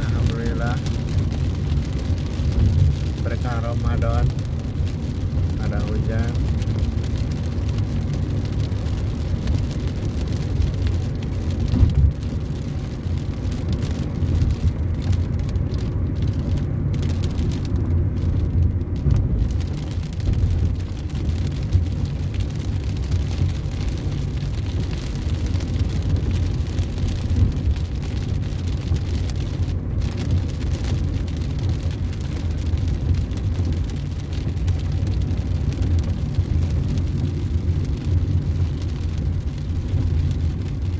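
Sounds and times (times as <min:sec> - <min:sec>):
car driving on wet road: 0:00.0 - 0:40.9
rain: 0:00.0 - 0:40.9.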